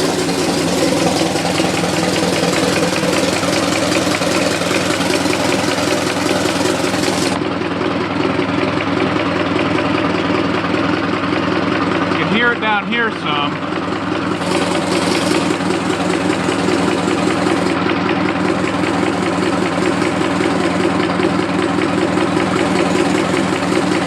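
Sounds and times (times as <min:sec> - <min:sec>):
car engine idling with knock: 0:00.0 - 0:24.0.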